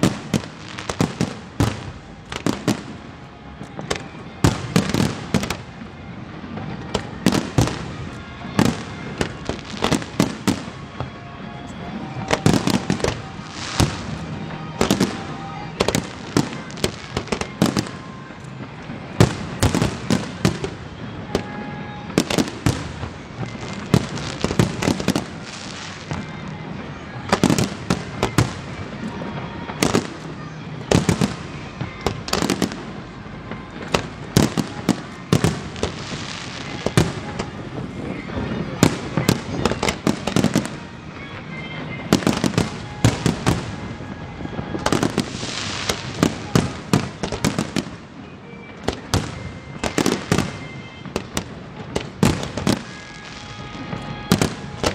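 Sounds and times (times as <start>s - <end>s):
fireworks bursting with sharp bangs: 0.0s - 54.9s
fireworks crackle and rumble: 0.0s - 54.9s.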